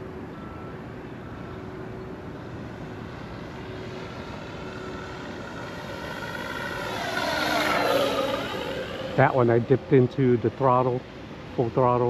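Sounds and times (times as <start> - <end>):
model plane motor humming: 0.1 - 10.5.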